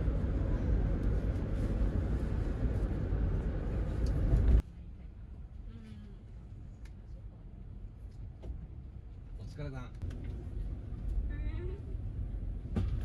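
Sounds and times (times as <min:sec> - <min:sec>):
vehicle rumble in motion: 0:00.0 - 0:13.0.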